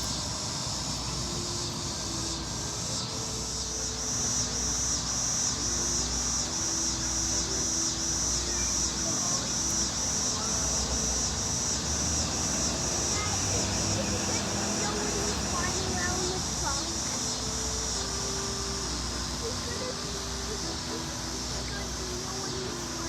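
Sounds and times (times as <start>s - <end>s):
insects buzzing in pulses: 0.0s - 23.0s.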